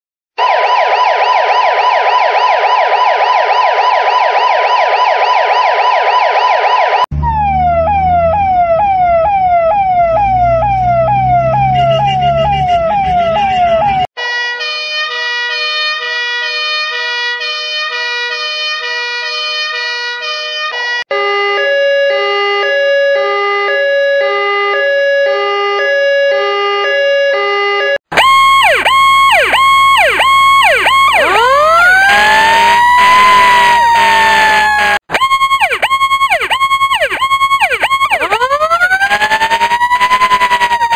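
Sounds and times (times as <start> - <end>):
fire truck siren rising and falling: 0.4 - 40.9
siren sweeping downward: 0.4 - 40.9
two-tone hi-lo siren: 0.4 - 40.9
warbling police siren: 0.4 - 40.9.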